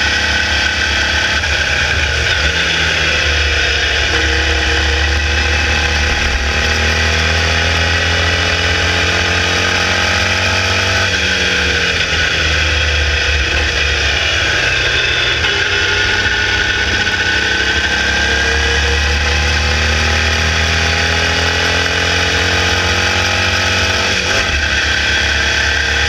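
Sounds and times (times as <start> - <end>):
racing car engine: 0.0 - 26.0.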